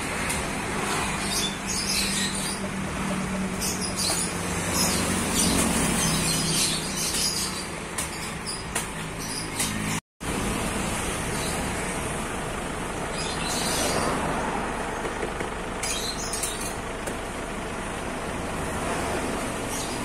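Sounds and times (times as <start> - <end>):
birds chirping: 0.2 - 10.0, 11.1 - 18.0, 19.2 - 20.0.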